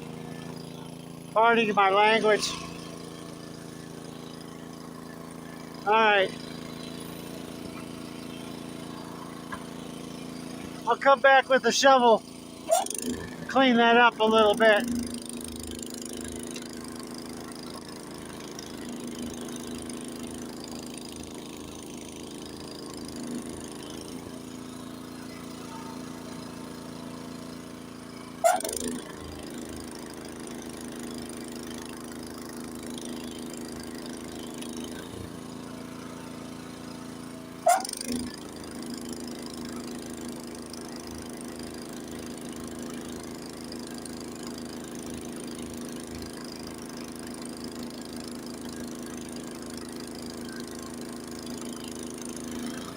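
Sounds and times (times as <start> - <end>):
snowblower engine running: 0.0 - 52.9.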